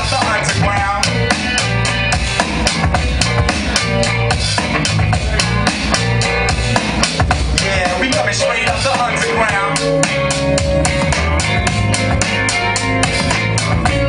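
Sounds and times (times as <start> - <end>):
drum kit beat: 0.0 - 14.0
hip hop band playing: 0.0 - 14.0.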